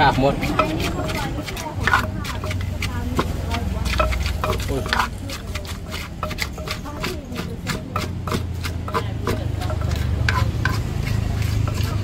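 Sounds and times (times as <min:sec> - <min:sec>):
wooden pestle knocking in mortar: 0:00.0 - 0:12.0.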